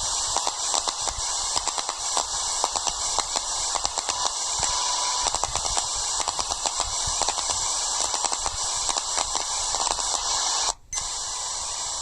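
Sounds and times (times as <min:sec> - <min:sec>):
radio receiver hiss: 0:00.0 - 0:12.0
crackling clicks: 0:00.2 - 0:11.1.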